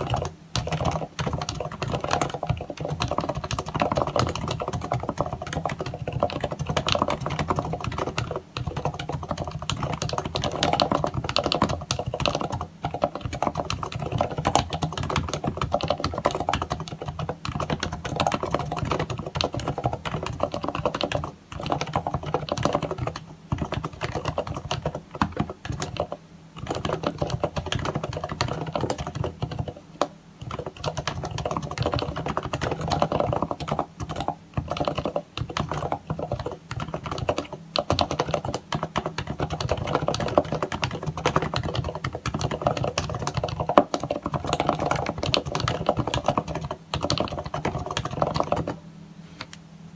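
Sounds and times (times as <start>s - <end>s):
fast typing on keyboard: 0.0s - 48.8s.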